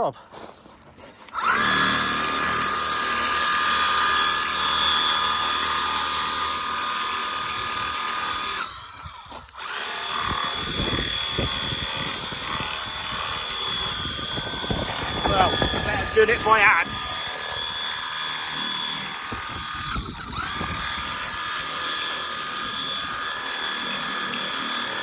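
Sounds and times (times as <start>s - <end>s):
pressure washer whining: 1.1s - 25.0s.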